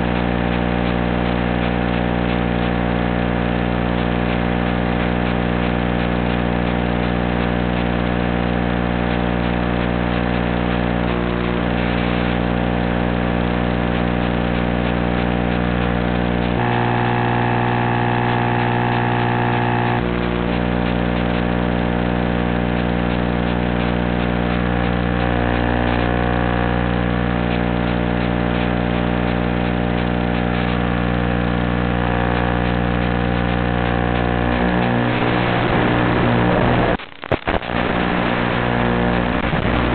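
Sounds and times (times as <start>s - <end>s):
electronic buzz with fixed tones: 0.0s - 39.9s.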